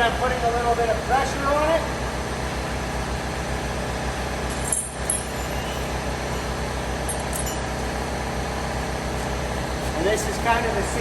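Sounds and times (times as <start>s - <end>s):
machine running with pulsing hum: 0.0s - 11.0s.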